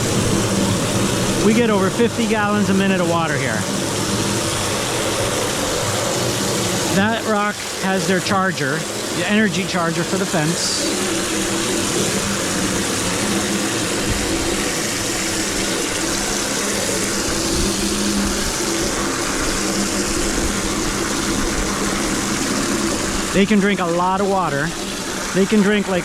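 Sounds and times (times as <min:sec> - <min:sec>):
garden hose water pouring: 0:00.0 - 0:26.0.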